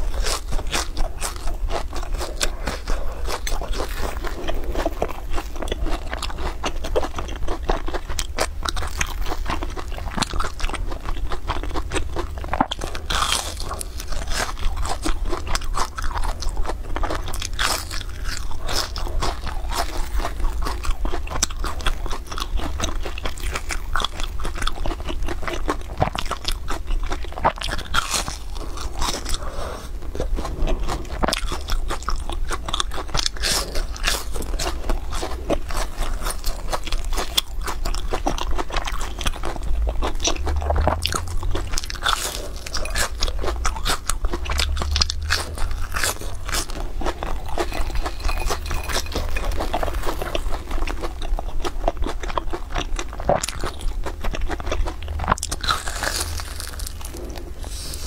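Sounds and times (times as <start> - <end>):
crunching and chewing fried food: 0.0 - 58.0.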